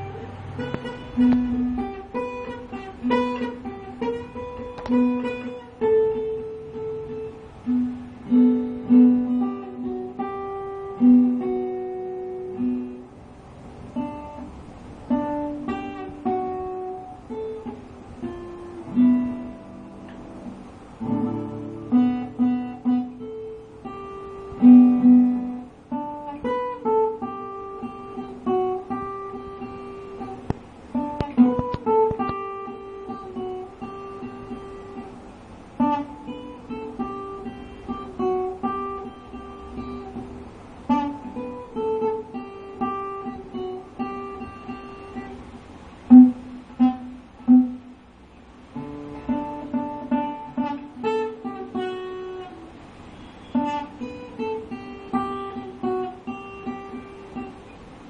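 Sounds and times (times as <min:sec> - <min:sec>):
guitar picked melody: 0:00.0 - 0:58.0.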